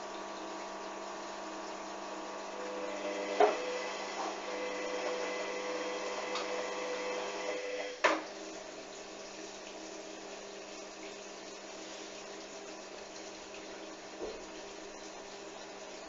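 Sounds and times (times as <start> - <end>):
water running in washing machine: 0.0 - 16.0.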